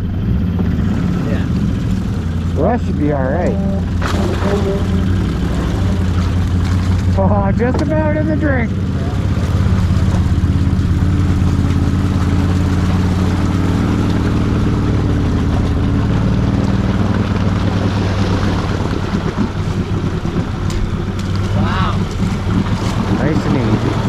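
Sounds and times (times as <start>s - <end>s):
atv engine under load: 0.0s - 24.0s
vehicle wading through mud: 0.0s - 24.0s.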